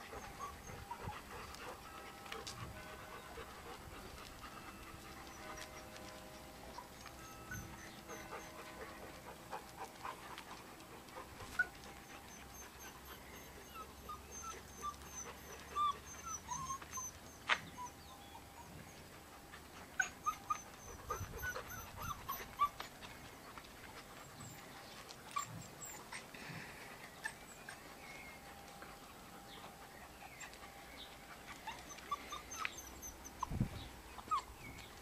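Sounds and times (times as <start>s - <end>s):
puppies whimpering and yipping: 0.0s - 35.0s.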